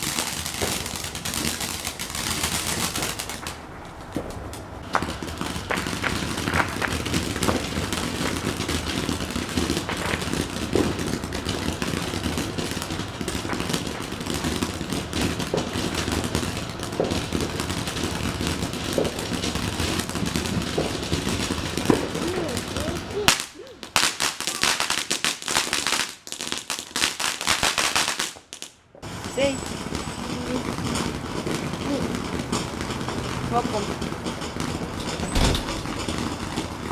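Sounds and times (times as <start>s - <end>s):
fireworks crackling and popping: 0.0s - 36.9s.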